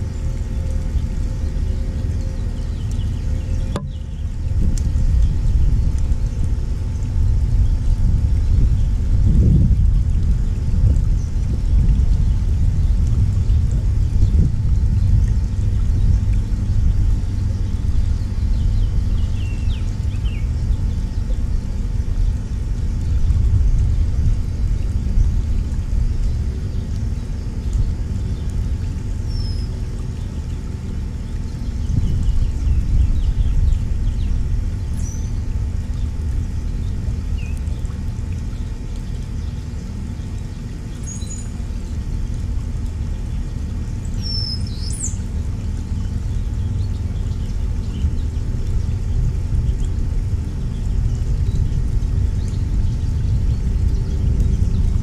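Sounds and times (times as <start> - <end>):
low rumble: 0.0 - 39.4, 45.2 - 55.0
small birds chirping: 0.4 - 6.5, 12.2 - 23.9, 26.2 - 37.9, 38.5 - 42.0, 43.2 - 55.0.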